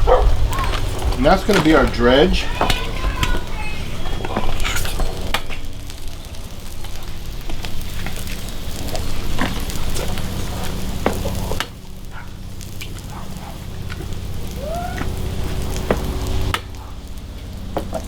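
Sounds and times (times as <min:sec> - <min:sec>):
food sizzling on a griddle: 0:00.5 - 0:18.0.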